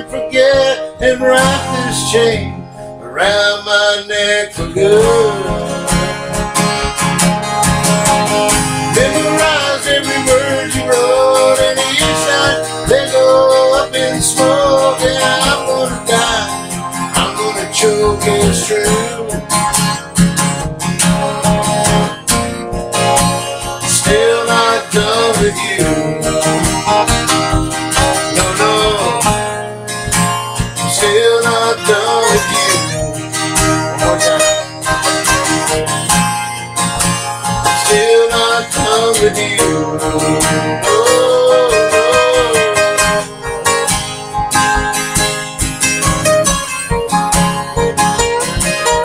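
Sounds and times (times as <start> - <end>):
strummed acoustic guitar: 0.0 - 49.0
wavering melodic lead line: 4.8 - 49.0.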